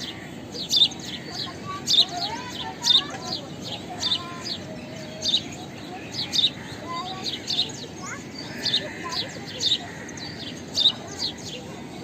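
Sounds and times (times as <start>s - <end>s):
sparrow chirping: 0.0s - 11.9s.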